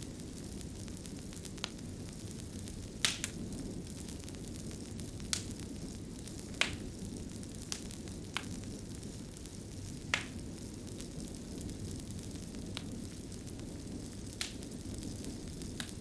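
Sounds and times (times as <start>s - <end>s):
fire crackles and pops: 0.0s - 16.0s
wood fire burning: 0.0s - 16.0s.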